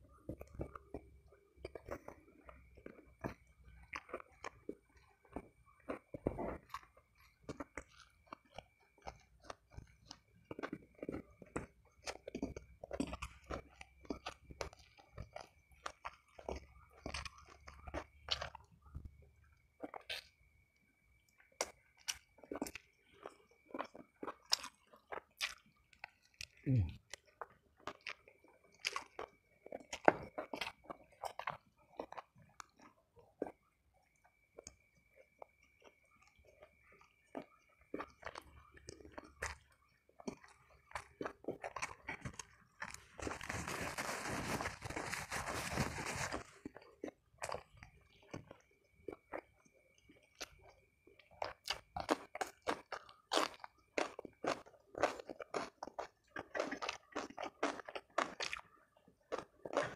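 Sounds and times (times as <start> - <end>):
chewing crunchy fried chicken: 0.0 - 59.9.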